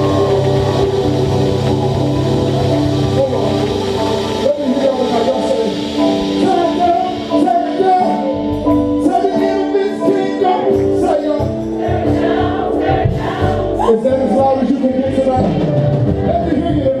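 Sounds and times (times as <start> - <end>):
bass notes: 0.0 - 9.4, 10.7 - 17.0
gospel choir singing: 0.0 - 17.0
keyboard chords: 0.0 - 17.0.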